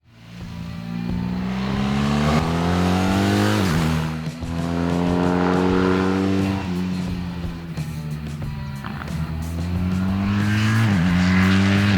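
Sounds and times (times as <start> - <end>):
motorcycle engine accelerating: 0.1 - 11.9.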